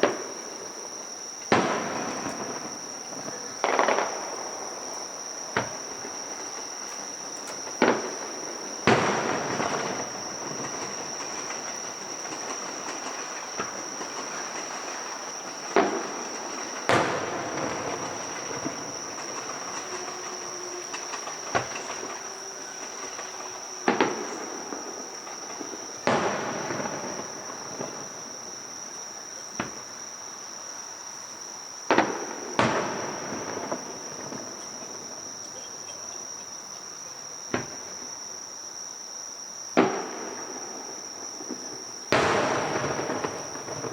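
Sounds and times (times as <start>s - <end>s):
fireworks bursting with crackle: 0.0s - 43.9s
high insect trill: 0.0s - 43.9s.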